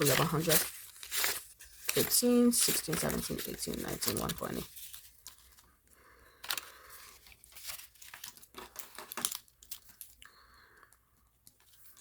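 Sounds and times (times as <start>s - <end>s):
paper banknotes rustling: 0.0s - 10.2s.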